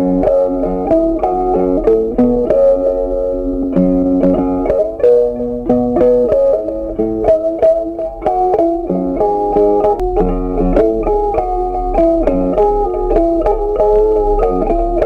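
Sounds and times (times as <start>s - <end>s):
guitar melody over steady beat: 0.0s - 15.0s.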